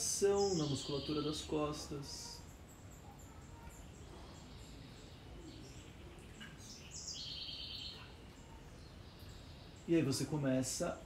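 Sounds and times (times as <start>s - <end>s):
faint low background noise: 0.0s - 11.0s.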